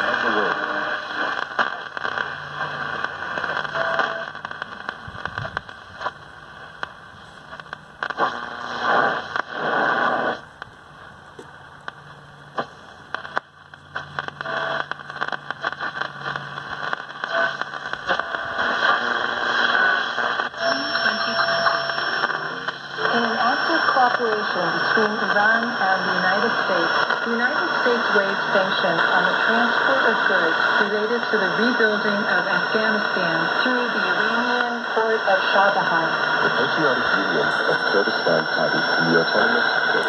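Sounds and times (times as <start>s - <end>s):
radio tuning whistles: 0.0s - 6.2s, 7.1s - 10.4s, 12.6s - 40.0s
radio static and crackle: 0.0s - 40.0s.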